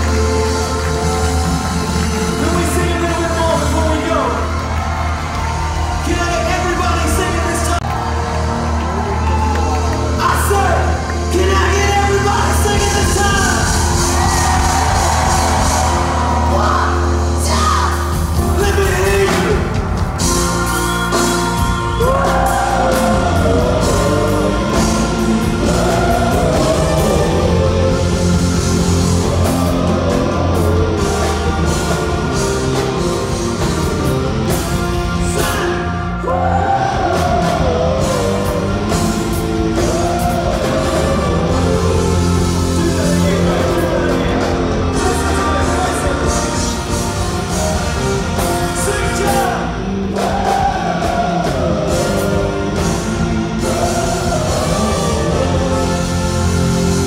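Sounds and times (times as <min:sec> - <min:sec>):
live rock band with singing: 0:00.0 - 0:57.0.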